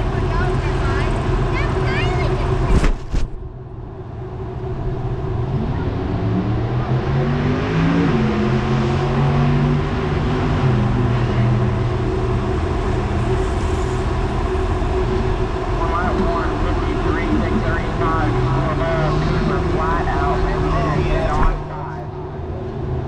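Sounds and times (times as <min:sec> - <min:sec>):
vehicle engine running: 0:00.0 - 0:02.8, 0:03.4 - 0:23.0.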